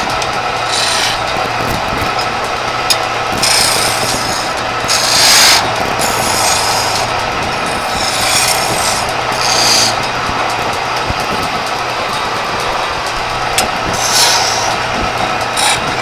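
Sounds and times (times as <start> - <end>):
chisel scraping spinning wood: 0.0 - 16.0
wood lathe humming: 0.0 - 16.0.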